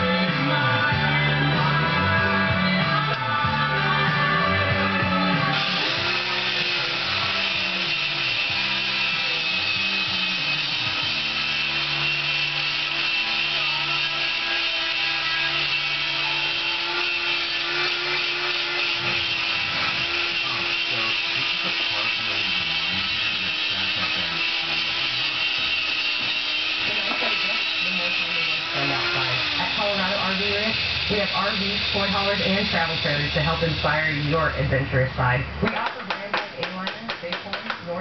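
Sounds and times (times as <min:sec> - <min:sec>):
power grinder on steel: 0:00.0 - 0:38.0.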